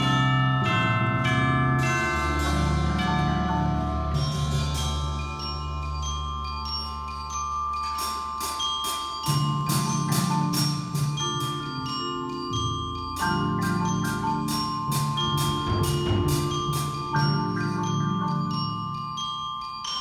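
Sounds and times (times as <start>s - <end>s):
bright high mallet strikes: 0.0s - 20.0s
marimba ensemble playing: 0.0s - 20.0s.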